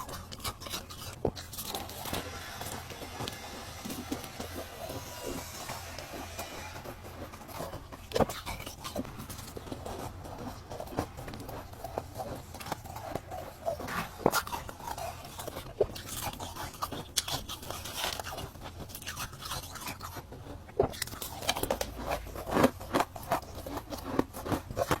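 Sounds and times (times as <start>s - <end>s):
ice crunched between teeth: 0.0s - 25.0s.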